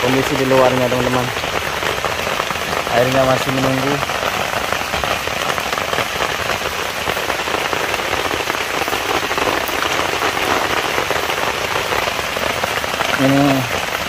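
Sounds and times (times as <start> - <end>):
rain on floodwater and leaves: 0.0 - 14.0.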